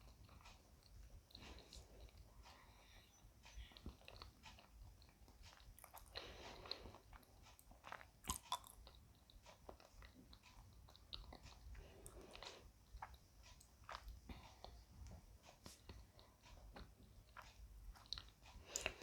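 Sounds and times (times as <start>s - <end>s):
chewing with wet mouth clicks: 0.0s - 2.6s, 3.4s - 19.0s.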